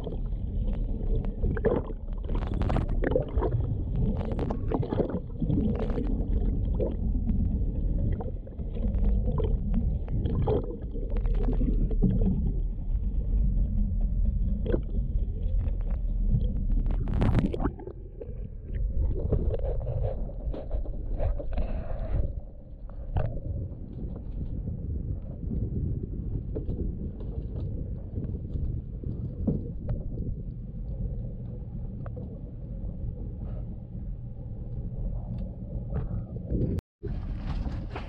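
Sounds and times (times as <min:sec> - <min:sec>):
water churning underwater: 0:00.0 - 0:38.0.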